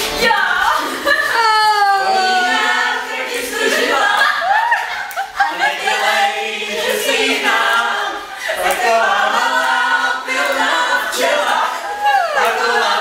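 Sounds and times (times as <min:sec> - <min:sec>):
voices singing without instruments: 0:00.0 - 0:13.0.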